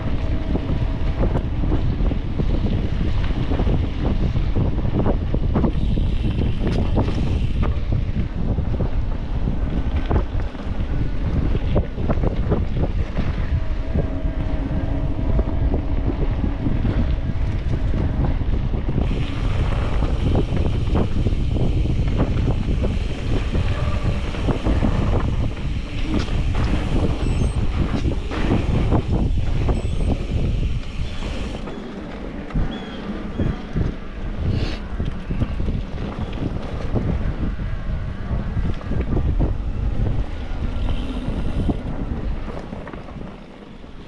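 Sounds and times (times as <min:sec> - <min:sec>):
bike rattles and knocks: 0:00.0 - 0:13.8, 0:15.7 - 0:44.0
wind buffeting microphone: 0:00.0 - 0:44.0.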